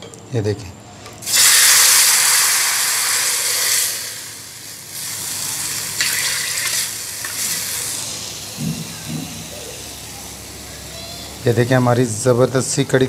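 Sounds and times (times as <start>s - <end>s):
hot oil sizzling: 1.2s - 13.0s.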